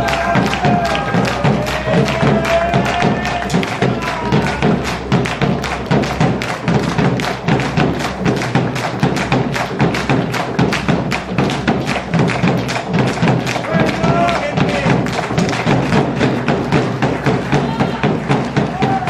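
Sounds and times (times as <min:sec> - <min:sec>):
fast percussive beats: 0:00.0 - 0:19.0.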